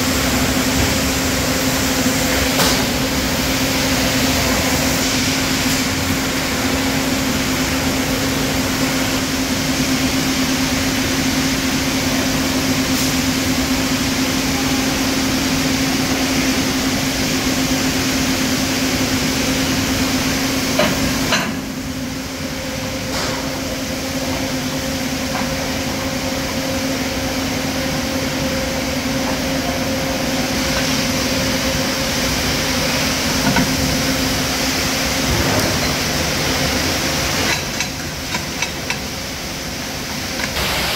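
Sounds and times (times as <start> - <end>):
workshop machinery humming: 0.0 - 40.9.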